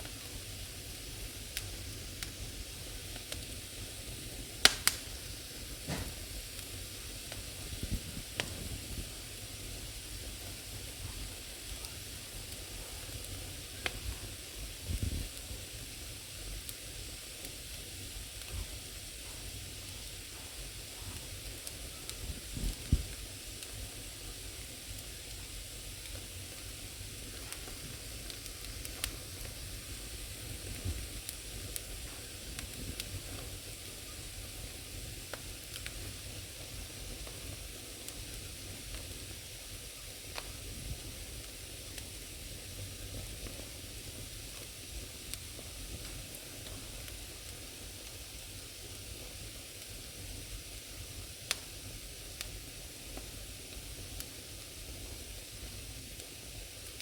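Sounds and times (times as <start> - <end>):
fire hissing: 0.0 - 57.0
firewood crackling and popping: 0.0 - 57.0.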